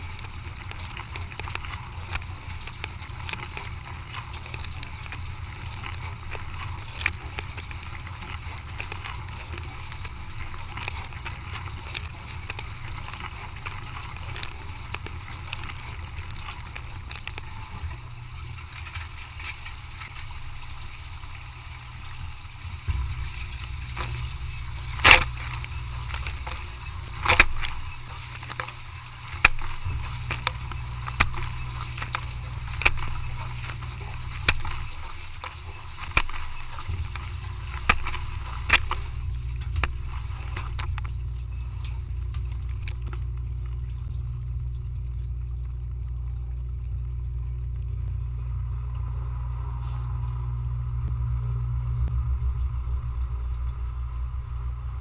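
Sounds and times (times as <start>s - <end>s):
dishwasher humming: 0.0s - 55.0s.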